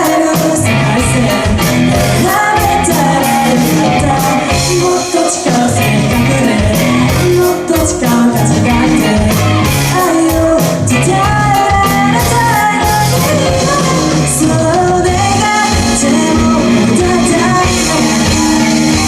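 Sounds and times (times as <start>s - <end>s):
drums keeping a beat: 0.0s - 19.0s
lead singer singing: 0.0s - 19.0s
live rock band playing: 0.0s - 19.0s.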